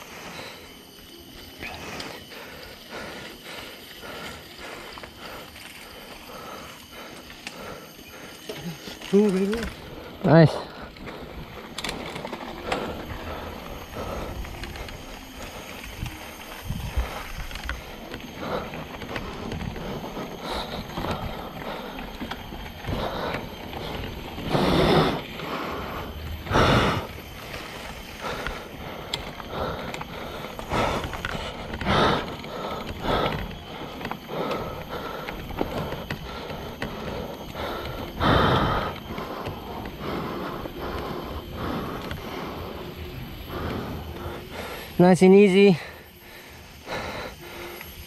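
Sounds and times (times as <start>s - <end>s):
bike knocking and rattling: 0.0s - 48.0s
bike tyres on dirt and stones: 0.0s - 48.0s.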